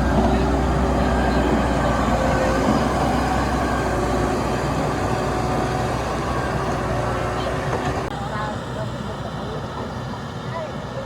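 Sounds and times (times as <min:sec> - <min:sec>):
road roller diesel engine rumbling: 0:00.0 - 0:11.0.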